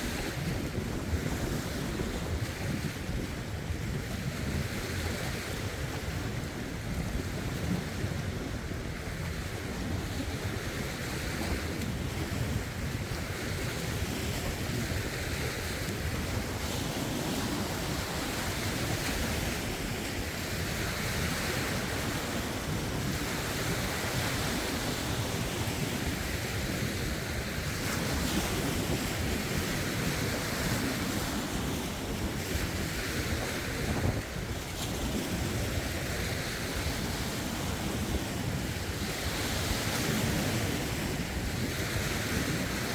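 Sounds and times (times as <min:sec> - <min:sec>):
waves lapping over rocks: 0:00.0 - 0:42.9
wind buffeting microphone: 0:00.0 - 0:42.9.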